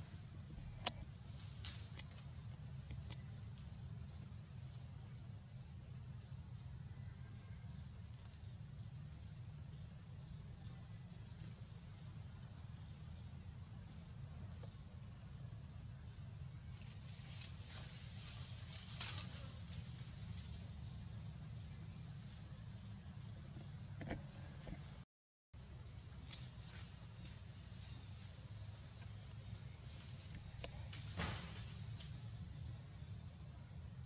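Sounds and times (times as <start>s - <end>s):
insect chorus buzzing: 0.0s - 25.0s, 25.6s - 34.0s.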